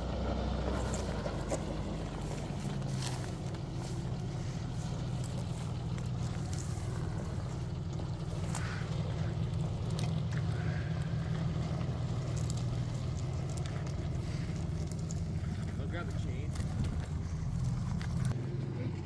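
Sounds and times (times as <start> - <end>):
car engine running at low speed: 0.0 - 19.0.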